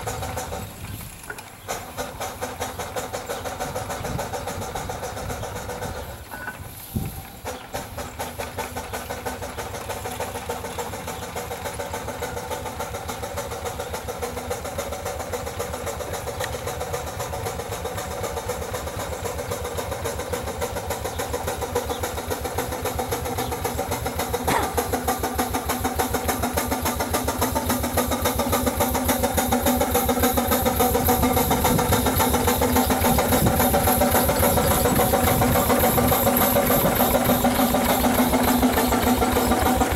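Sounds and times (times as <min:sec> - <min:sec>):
steam engine exhaust beating: 0:00.0 - 0:39.9.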